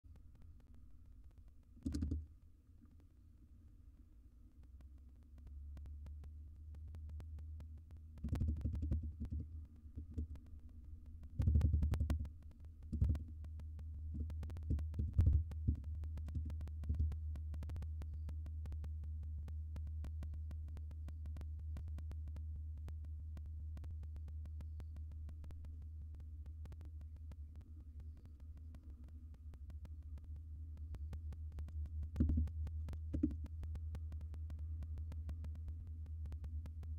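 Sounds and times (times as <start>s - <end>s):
steady low hum: 0.0s - 36.9s
faint clicks: 0.1s - 36.9s.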